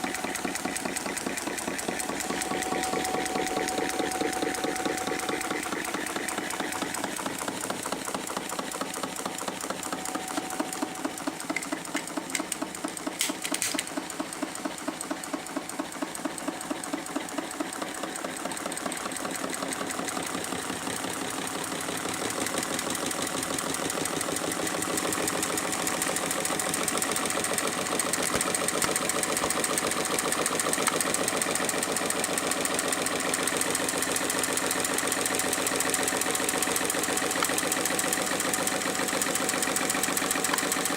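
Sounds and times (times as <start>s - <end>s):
hot-air engine clattering: 0.0s - 40.9s.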